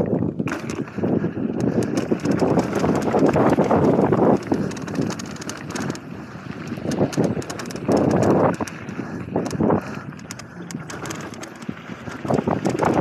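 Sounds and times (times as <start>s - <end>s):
mountain bike rattling: 0.0s - 13.0s
tyres on loose ground: 0.0s - 13.0s
wind on microphone: 0.0s - 13.0s.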